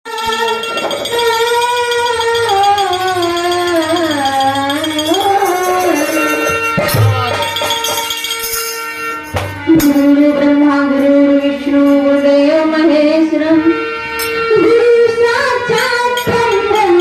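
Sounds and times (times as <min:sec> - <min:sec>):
rattling hand percussion: 0:00.1 - 0:12.5, 0:14.1 - 0:17.0
sliding melodic line: 0:00.1 - 0:13.6, 0:14.2 - 0:17.0.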